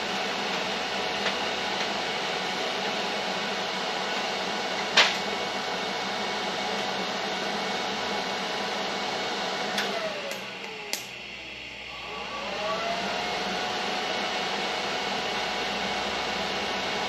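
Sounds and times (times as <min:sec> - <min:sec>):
welder hissing and humming: 0:00.0 - 0:17.0.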